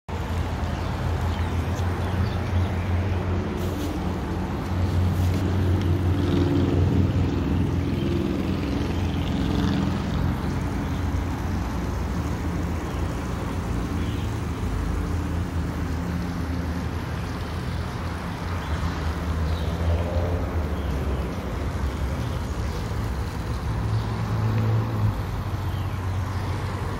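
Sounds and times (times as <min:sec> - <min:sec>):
vehicle engine rumbling: 0:00.1 - 0:26.9.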